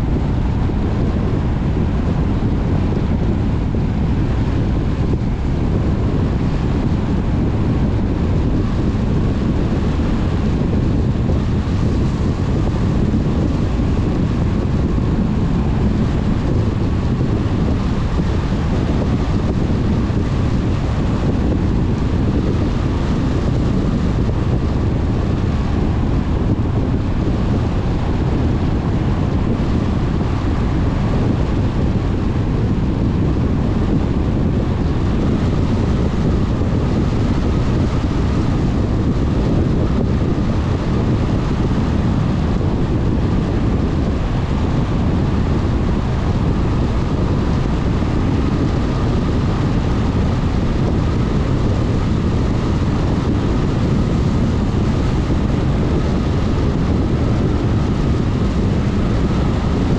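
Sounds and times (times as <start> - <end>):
car driving road noise: 0.0 - 59.9
faint steady whine: 0.0 - 59.9.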